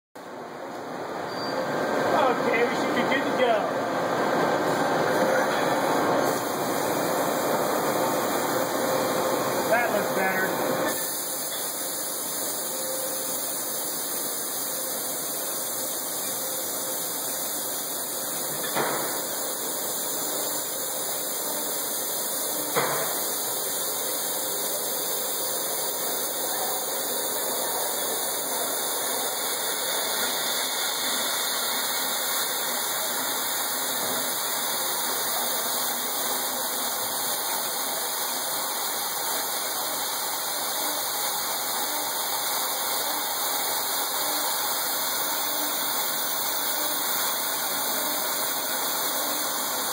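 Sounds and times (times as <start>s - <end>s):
milling machine cutting metal: 4.0s - 13.6s, 14.2s - 49.9s.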